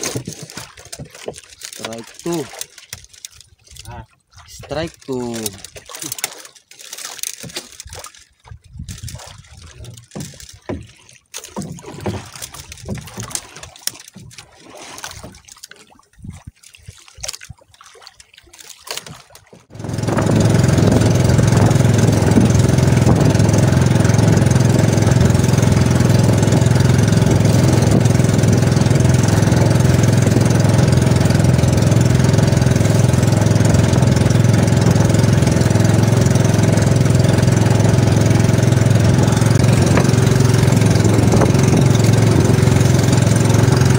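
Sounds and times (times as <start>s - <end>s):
boat engine humming: 0.0s - 43.9s
water sloshing against hull: 0.0s - 43.9s.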